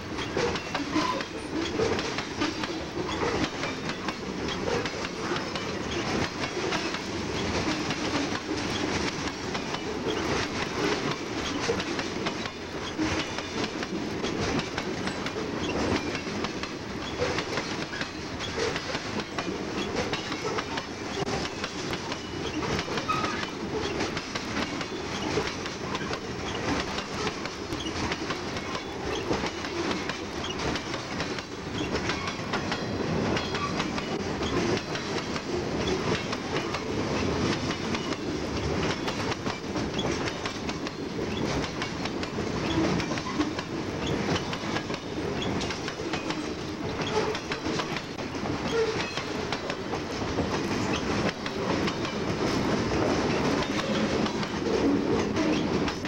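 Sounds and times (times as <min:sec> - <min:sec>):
clattering clicks of train wheels: 0:00.0 - 0:56.0
freight train rumbling past: 0:00.0 - 0:56.0.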